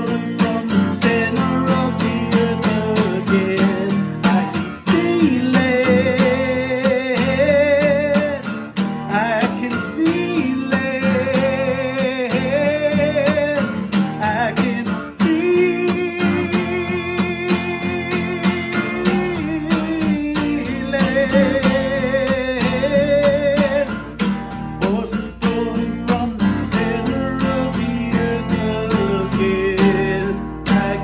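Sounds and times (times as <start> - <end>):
acoustic guitar strumming: 0.0 - 31.0
wordless singing with vibrato: 0.0 - 31.0.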